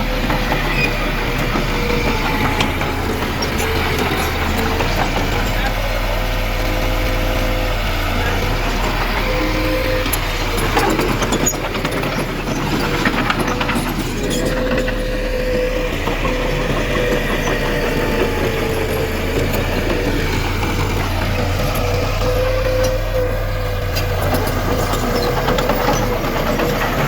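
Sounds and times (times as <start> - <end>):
clanking and rattling: 0.0 - 27.0
diesel engine running: 0.0 - 27.0.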